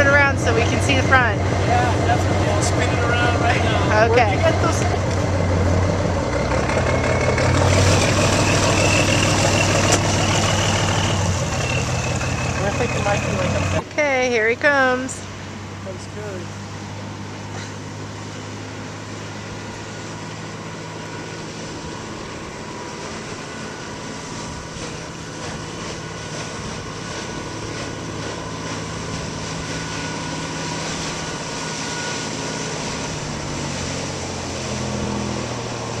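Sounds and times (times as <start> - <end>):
boat engine running: 0.0 - 36.0
water noise: 0.0 - 36.0.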